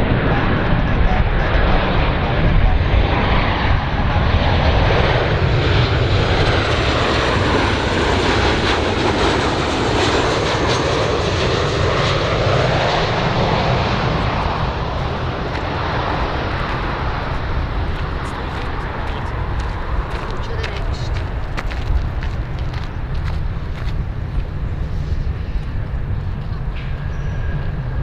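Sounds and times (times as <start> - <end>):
airplane engine noise: 0.0 - 28.0.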